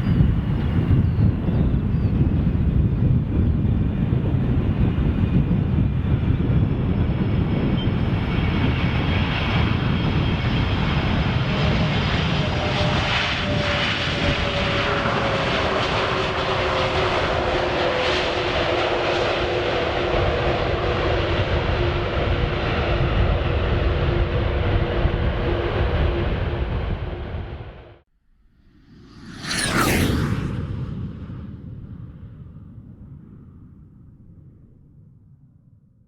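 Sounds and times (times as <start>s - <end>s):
jet engines roaring: 0.0s - 28.0s, 28.6s - 33.4s.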